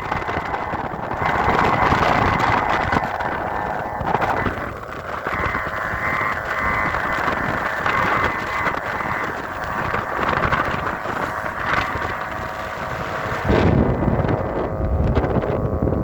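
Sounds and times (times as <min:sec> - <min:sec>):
kite string droning: 0:00.0 - 0:16.0
wind rumble on microphone: 0:00.0 - 0:16.0.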